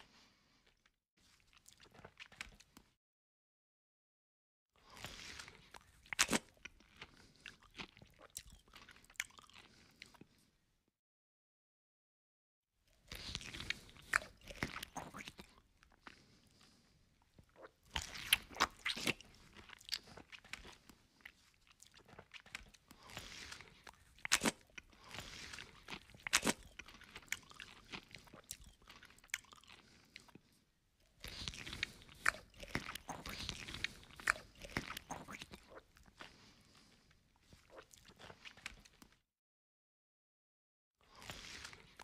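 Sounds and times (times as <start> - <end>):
person chewing and crunching food: 0.0 - 3.0, 4.8 - 10.6, 12.9 - 39.2, 41.0 - 42.0.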